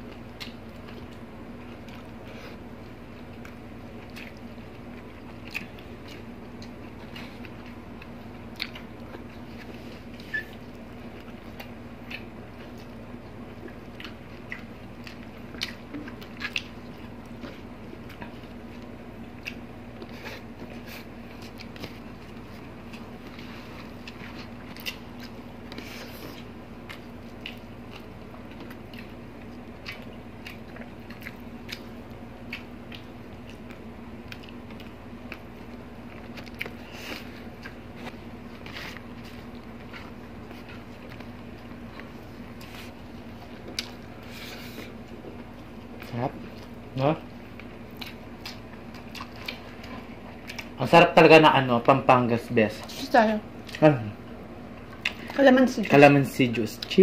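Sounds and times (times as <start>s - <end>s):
faint steady hum: 0.0s - 57.0s
people chewing food: 0.0s - 57.0s.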